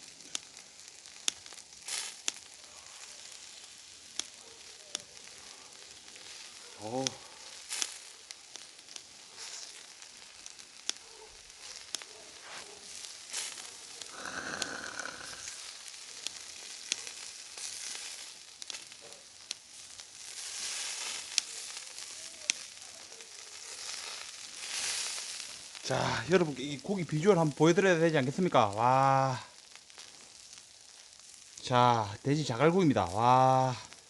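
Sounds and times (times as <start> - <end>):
pork sizzling on hot stones: 0.0 - 34.0
sharp pops of frying: 0.0 - 34.0.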